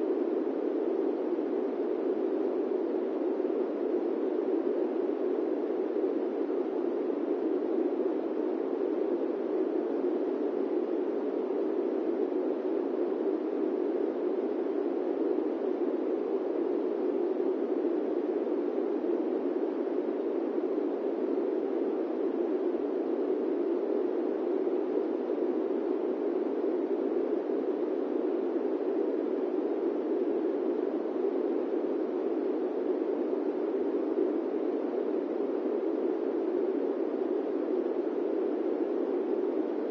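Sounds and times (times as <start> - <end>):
airplane cabin white noise: 0.0 - 39.9.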